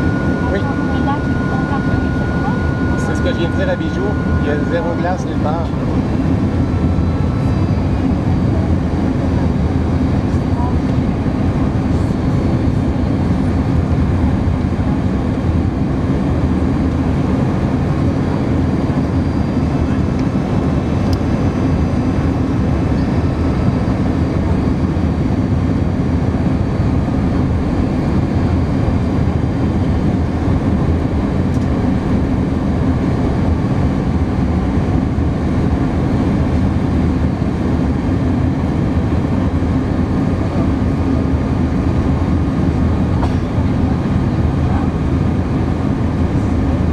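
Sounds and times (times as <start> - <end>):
airliner cabin engine rumble: 0.0 - 46.9
steady low hum: 0.0 - 46.9.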